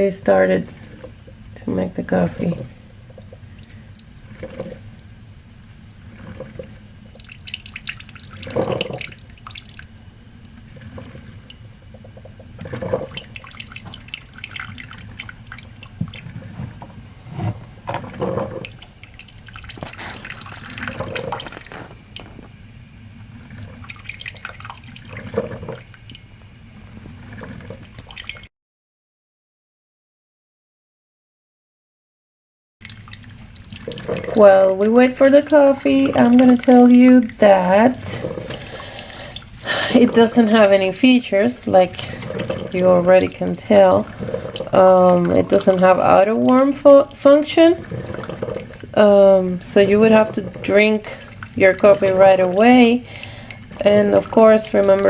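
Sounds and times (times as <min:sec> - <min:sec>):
coffee maker water spurting: 0:00.0 - 0:28.5, 0:32.8 - 0:55.0
steady low hum: 0:00.0 - 0:28.5, 0:32.8 - 0:55.0.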